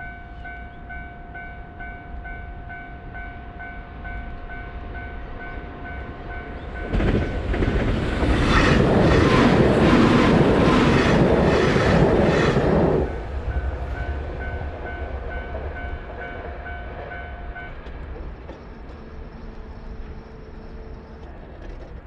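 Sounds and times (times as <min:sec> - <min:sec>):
train wheel noise: 0:04.0 - 0:22.0.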